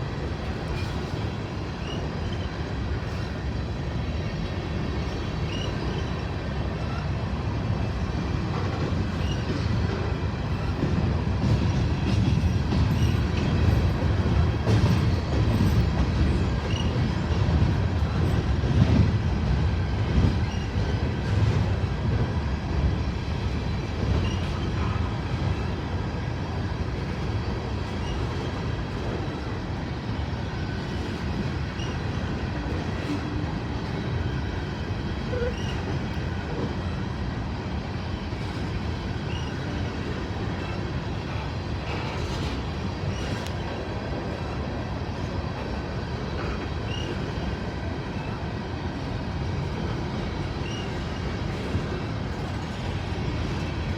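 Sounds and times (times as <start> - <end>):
train running on rails: 0.0 - 53.9.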